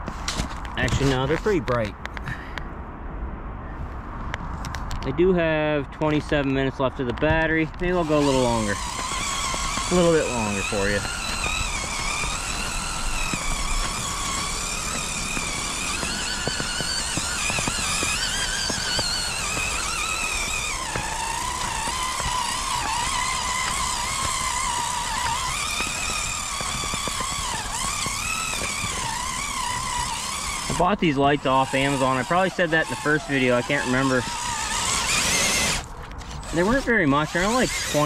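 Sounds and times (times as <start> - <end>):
light clicks of wheels: 0.0 - 2.7, 4.3 - 5.1, 5.9 - 38.0
electric motor whining: 6.4 - 38.0.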